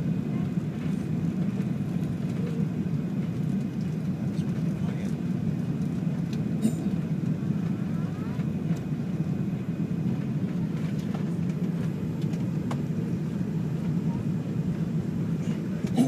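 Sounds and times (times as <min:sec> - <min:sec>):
aircraft cabin engine roar: 0:00.0 - 0:16.0.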